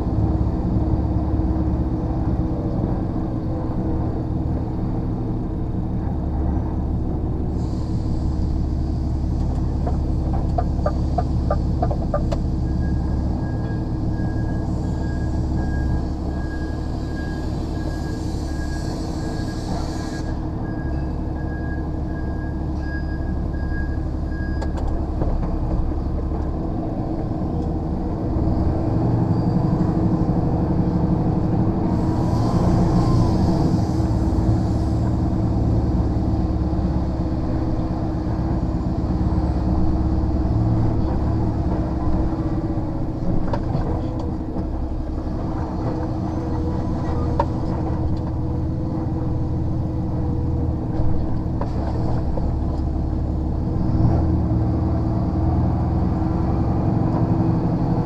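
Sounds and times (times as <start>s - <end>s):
lorry diesel engine running: 0.0s - 58.0s.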